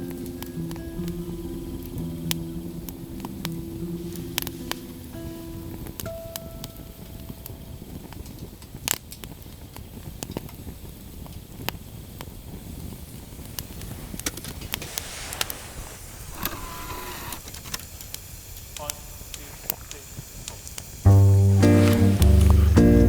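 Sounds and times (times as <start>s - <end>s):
campfire crackling and popping: 0.0s - 16.6s, 17.4s - 23.0s.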